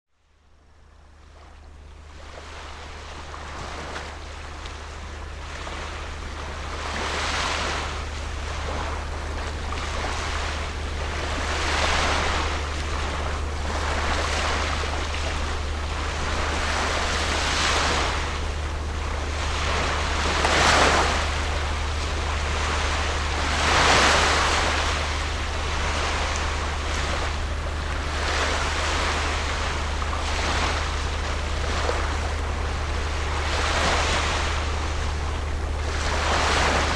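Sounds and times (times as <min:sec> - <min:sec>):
steady low rumble: 0:00.2 - 0:36.9
water washing in surges: 0:02.0 - 0:36.9.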